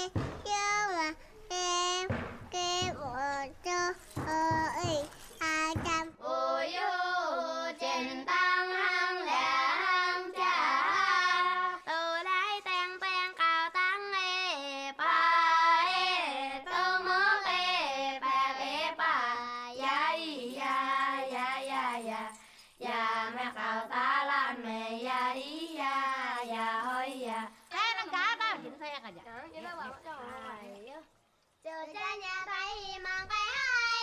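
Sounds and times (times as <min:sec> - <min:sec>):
children singing: 0:00.0 - 0:27.5.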